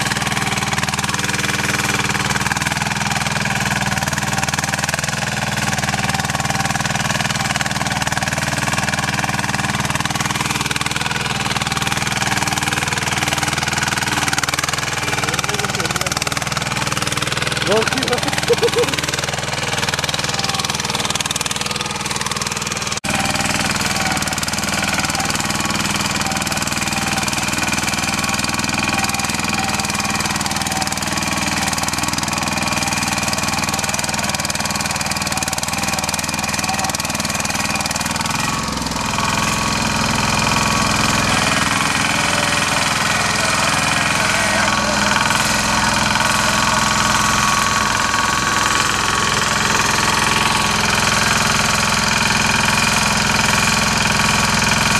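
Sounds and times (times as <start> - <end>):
tiller engine running: 0.0 - 54.9
tines tilling soil: 0.0 - 54.9.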